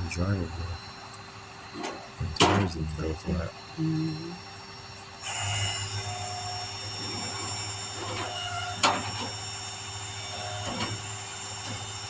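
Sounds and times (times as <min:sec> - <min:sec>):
winch and engine droning: 0:00.0 - 0:12.0.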